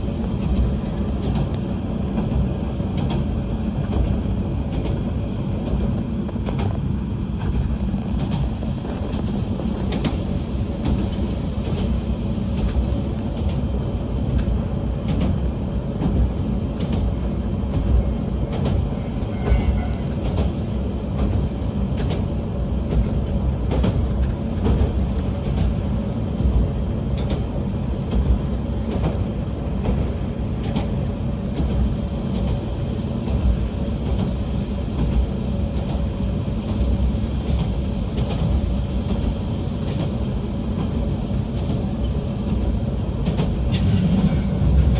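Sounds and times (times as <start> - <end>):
railcar low rumble: 0.0 - 44.9
wheels clicking over rail joints: 0.2 - 44.9.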